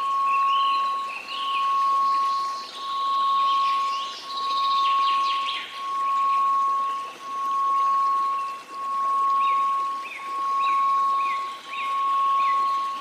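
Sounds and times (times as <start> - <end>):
bird-like chirps and twitters: 0.0 - 13.0
steady pure tone: 0.0 - 13.0
white noise hiss: 0.0 - 13.0.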